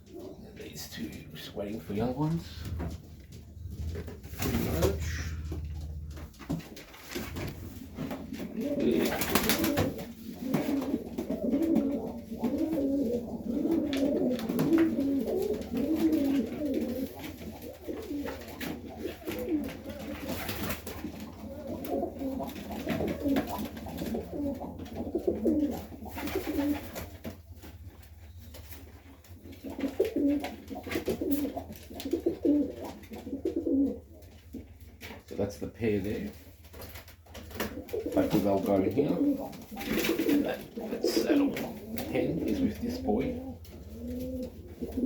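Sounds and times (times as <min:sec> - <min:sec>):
pigeons cooing: 0:00.0 - 0:35.1, 0:37.3 - 0:45.0.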